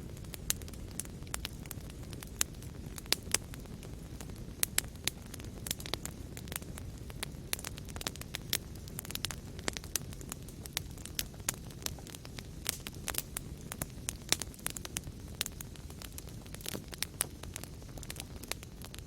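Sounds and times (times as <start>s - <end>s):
fire crackling and popping: 0.0s - 19.0s
low rumble of burning: 0.0s - 19.0s.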